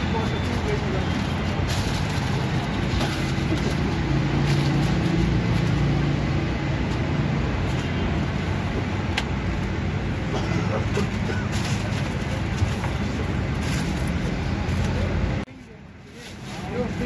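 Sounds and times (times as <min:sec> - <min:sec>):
engine hum: 0:00.0 - 0:15.5
street traffic rumble: 0:00.0 - 0:17.0.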